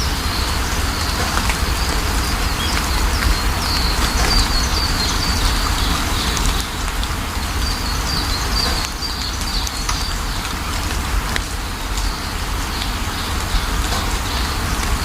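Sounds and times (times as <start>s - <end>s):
raindrops ticking: 0.0s - 15.0s
small birds chirping: 0.0s - 15.0s
steady rain falling: 0.0s - 15.0s.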